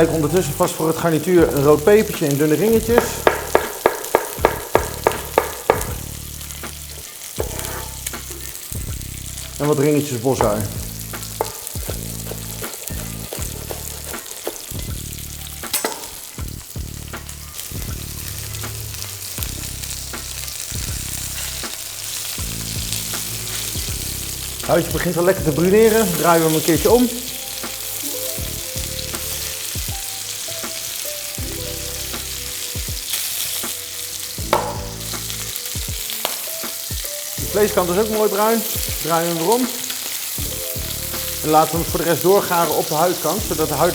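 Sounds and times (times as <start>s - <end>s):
chicken sizzling in a pan: 0.0s - 43.9s.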